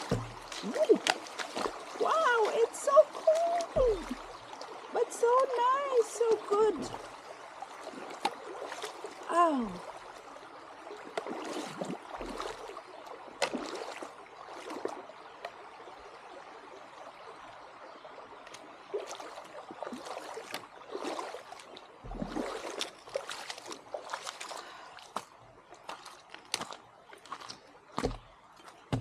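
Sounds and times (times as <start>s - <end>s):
stream gurgling and trickling: 0.0s - 29.0s
water splashes: 0.0s - 29.0s.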